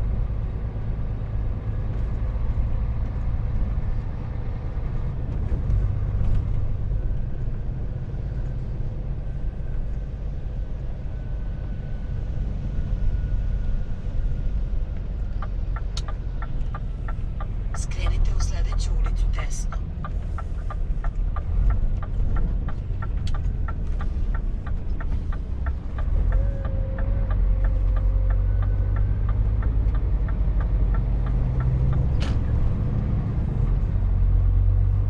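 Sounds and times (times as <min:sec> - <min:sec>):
truck engine rumble: 0:00.0 - 0:35.0.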